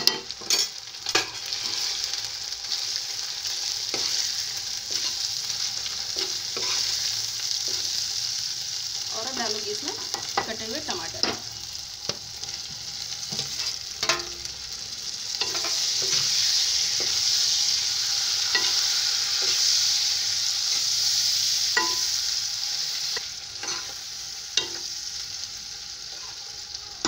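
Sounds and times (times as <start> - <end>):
tomatoes sizzling in hot oil: 0.0 - 27.0.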